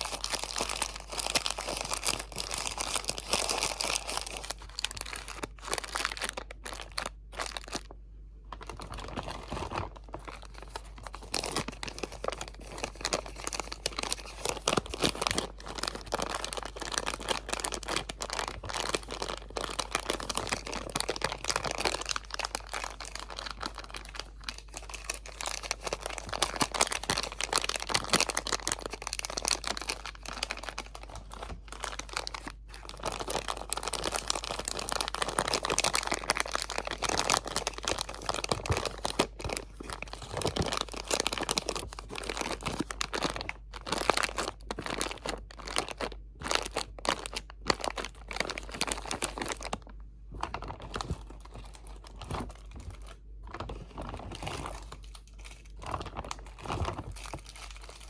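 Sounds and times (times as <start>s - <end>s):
crinkly material crumpling: 0.0s - 58.0s.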